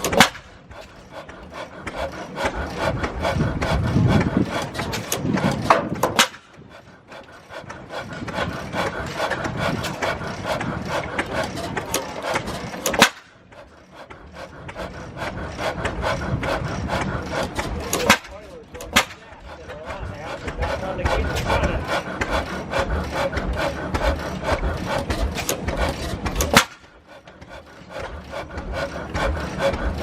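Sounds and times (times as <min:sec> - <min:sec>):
engine rhythmic clatter: 0:00.0 - 0:30.0.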